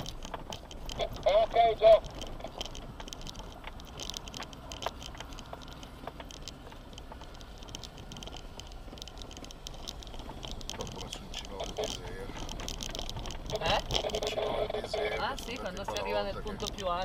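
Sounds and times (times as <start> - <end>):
clicking and rattling: 0.0 - 17.0
vehicle driving on gravel: 0.0 - 17.0.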